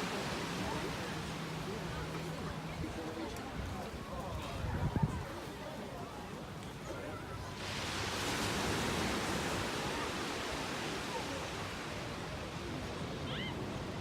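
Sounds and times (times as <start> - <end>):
sea surf washing onto beach: 0.0 - 5.6, 6.4 - 14.0.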